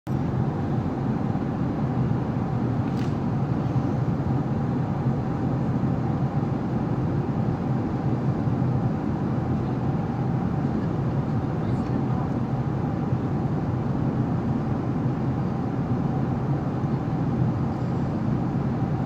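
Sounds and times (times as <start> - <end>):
airplane cabin engine drone: 0.1 - 19.0.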